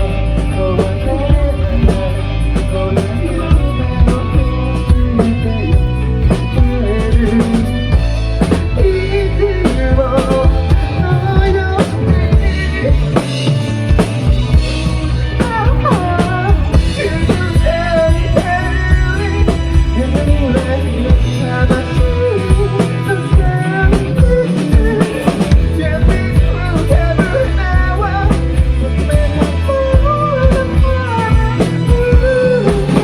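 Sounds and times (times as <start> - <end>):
band music: 0.0 - 33.0
drum kit beat: 0.0 - 33.0
person singing: 0.0 - 33.0.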